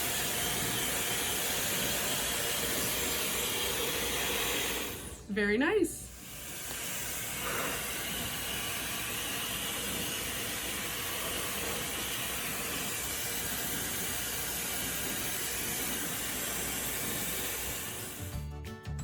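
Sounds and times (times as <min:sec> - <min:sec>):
hair dryer blowing air: 0:00.0 - 0:18.3.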